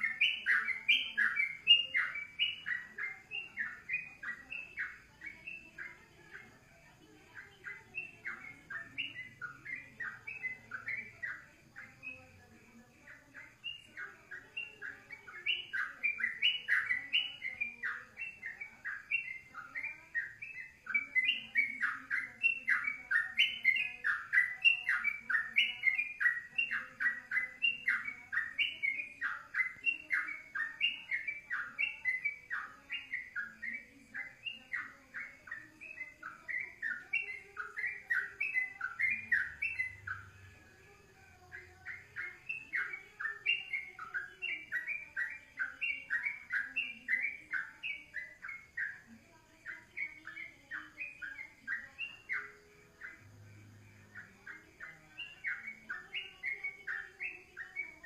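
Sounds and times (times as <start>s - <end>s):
songbird chirping song: 0.0s - 58.0s.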